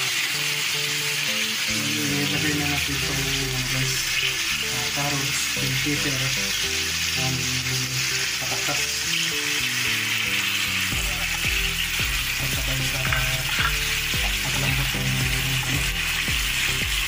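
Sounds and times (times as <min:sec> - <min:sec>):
background music: 0:00.0 - 0:17.0
chicken sizzling in a pan: 0:00.0 - 0:17.0.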